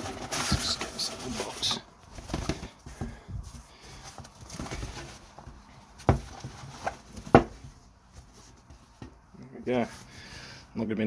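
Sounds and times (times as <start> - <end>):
cardboard box rustling: 0.0 - 10.0.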